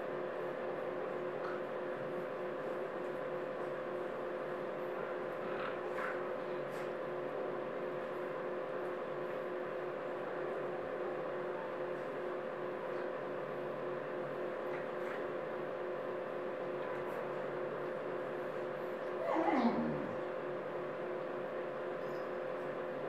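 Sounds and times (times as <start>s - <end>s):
mechanical hum: 0.0s - 23.0s.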